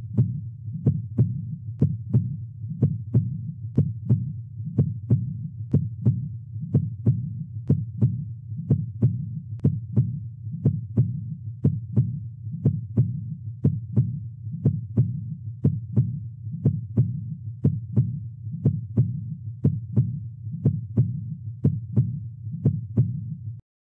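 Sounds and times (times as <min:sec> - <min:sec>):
heartbeat lub-dub: 0:00.0 - 0:23.6.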